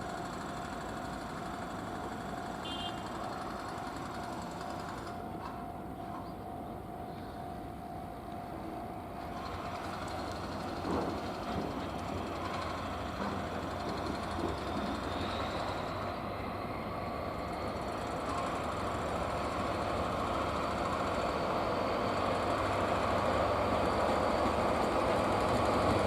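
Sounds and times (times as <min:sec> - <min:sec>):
freight train wheels on rail: 0:00.0 - 0:26.0.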